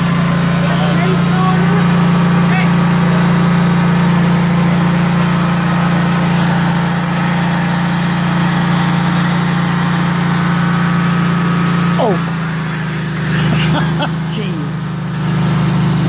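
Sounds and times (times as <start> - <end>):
sawmill engine humming: 0.0 - 16.0.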